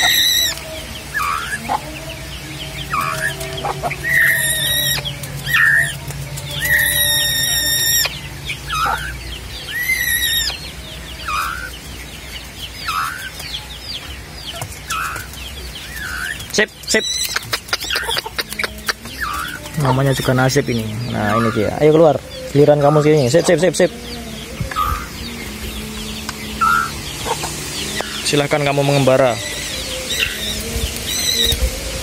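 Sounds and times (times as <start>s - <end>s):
young doves squealing: 0.0s - 32.0s.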